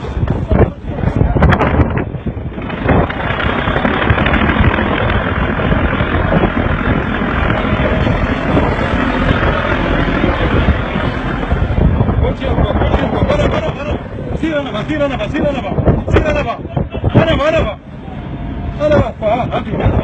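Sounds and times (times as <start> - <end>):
boat engine rumbling: 0.0 - 20.0
wind buffeting microphone: 0.0 - 20.0.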